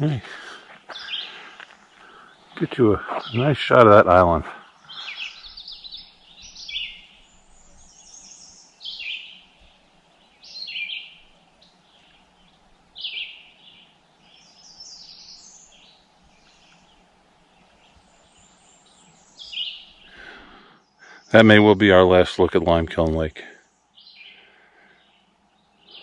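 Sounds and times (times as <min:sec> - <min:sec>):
faint steady outdoor hiss: 0:00.0 - 0:26.0
songbird singing high phrases: 0:00.9 - 0:26.0.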